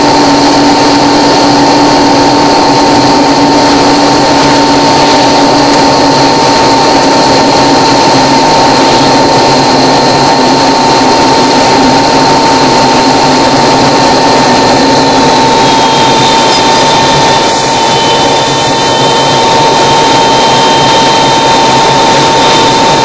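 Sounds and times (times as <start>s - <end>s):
small aircraft engine running: 0.0s - 23.0s.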